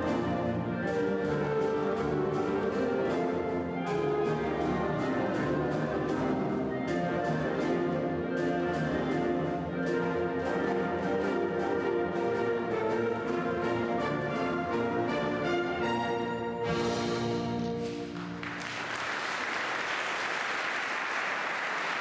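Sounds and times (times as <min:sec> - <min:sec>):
orchestra playing: 0:00.0 - 0:19.6.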